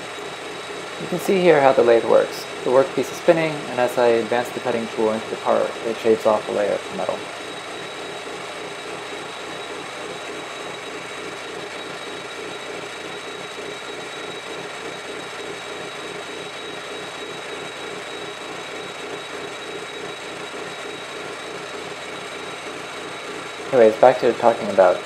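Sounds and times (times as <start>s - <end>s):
metal lathe droning: 0.0s - 25.0s
thin high whine: 0.0s - 25.0s.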